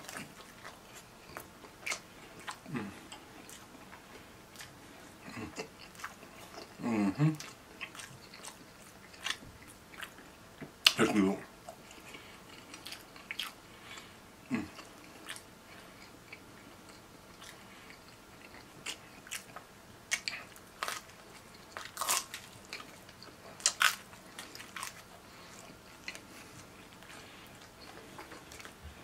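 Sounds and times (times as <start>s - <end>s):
person chewing pizza: 0.0s - 29.0s.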